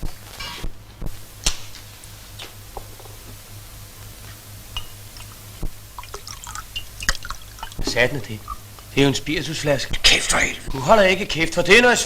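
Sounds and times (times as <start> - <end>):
film soundtrack hum and hiss: 0.0 - 12.0.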